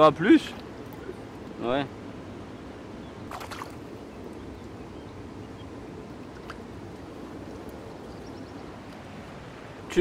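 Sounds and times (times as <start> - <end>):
river water rushing: 0.0 - 4.5, 5.2 - 10.0.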